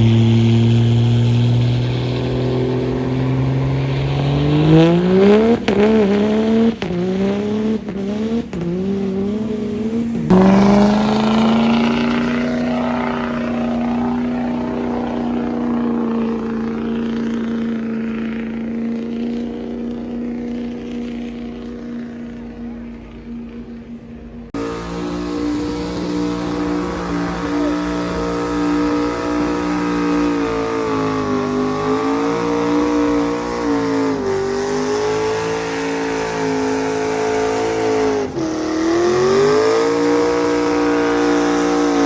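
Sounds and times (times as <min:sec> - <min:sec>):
diesel truck engine revving: 0:00.0 - 0:42.0.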